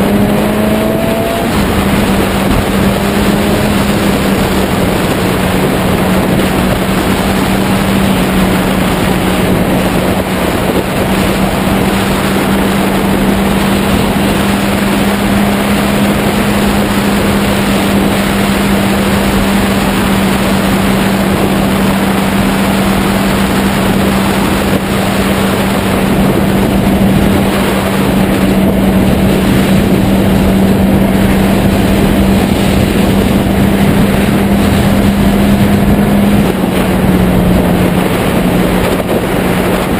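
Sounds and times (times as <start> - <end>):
motorcycle engine drone: 0.0 - 39.9
wind buffeting microphone: 0.0 - 39.9.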